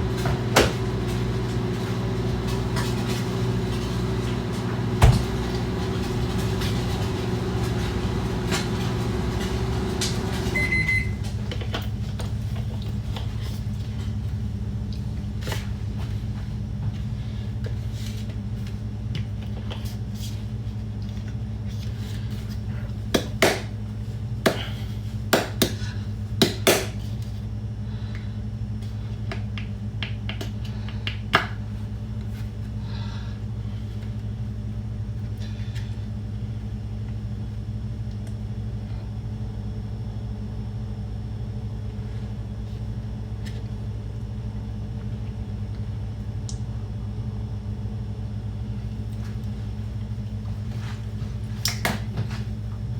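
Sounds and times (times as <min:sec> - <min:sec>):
steady low hum: 0:00.0 - 0:26.4, 0:27.1 - 0:52.9.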